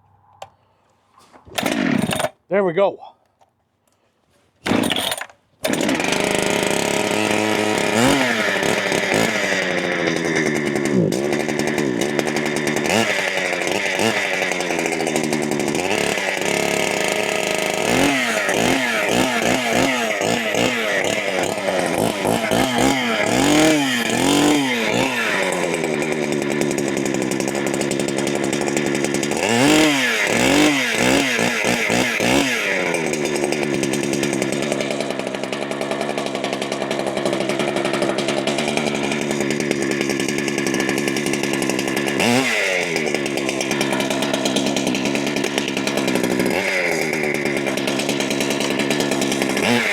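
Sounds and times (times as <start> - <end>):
chainsaw revving and idling: 1.5 - 2.9, 4.6 - 49.9.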